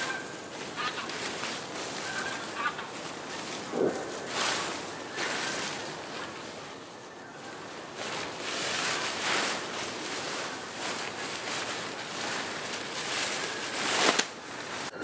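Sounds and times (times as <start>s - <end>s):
fabric rustling and swishing: 0.0s - 15.0s.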